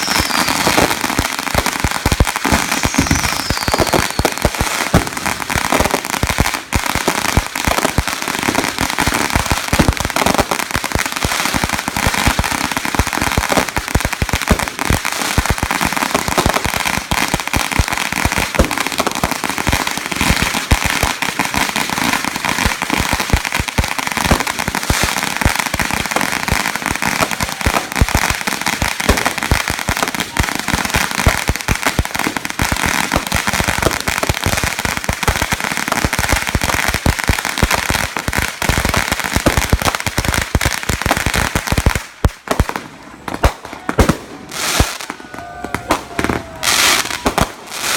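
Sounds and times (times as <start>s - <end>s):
fireworks crackling: 0.0s - 47.9s.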